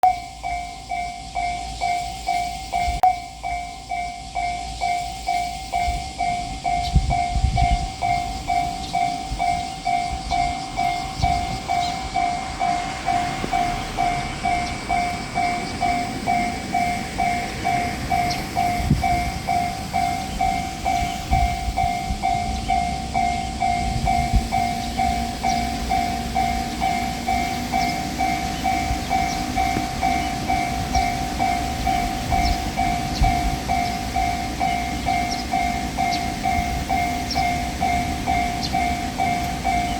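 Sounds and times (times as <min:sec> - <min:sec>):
level crossing alarm bell: 0:00.0 - 0:39.9
low rumbles: 0:06.1 - 0:39.9.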